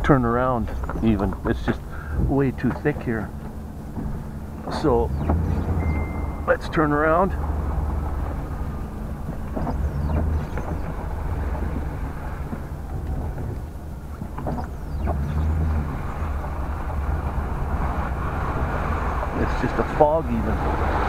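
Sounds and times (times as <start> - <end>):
tyres through slush and water: 0.0 - 21.0
van engine rumbling: 0.0 - 21.0.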